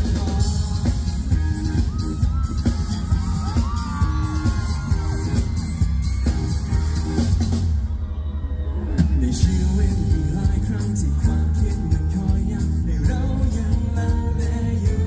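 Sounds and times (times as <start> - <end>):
live pop-rock band through pa: 0.0 - 8.0, 8.7 - 15.0
heavy bass: 0.0 - 8.1, 8.9 - 15.0.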